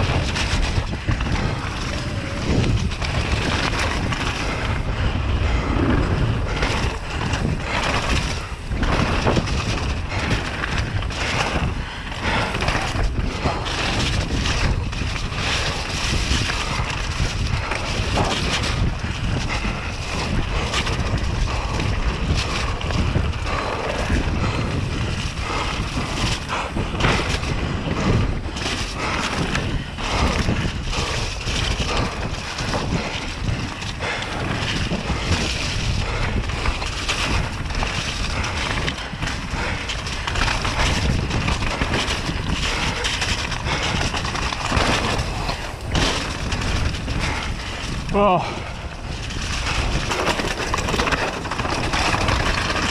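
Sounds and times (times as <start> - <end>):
bike knocks and rattles: 0.0 - 52.9
tyres rolling on dirt: 0.0 - 52.9
wind rush on microphone: 0.0 - 52.9.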